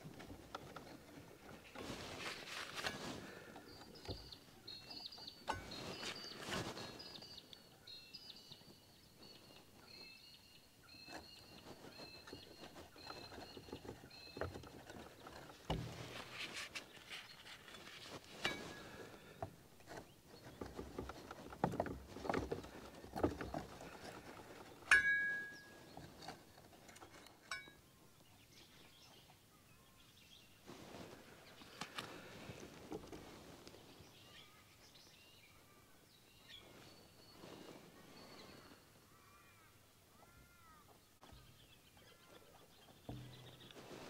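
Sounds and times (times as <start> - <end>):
birds calling: 0.5 - 44.0.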